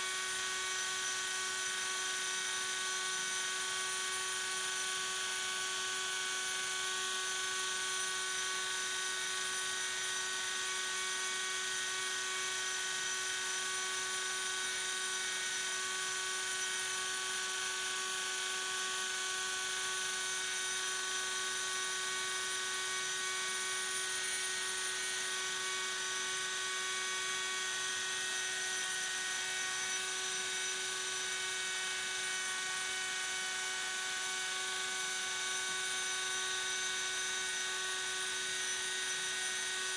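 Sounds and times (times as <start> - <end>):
electric milling spindle hum: 0.0 - 39.9.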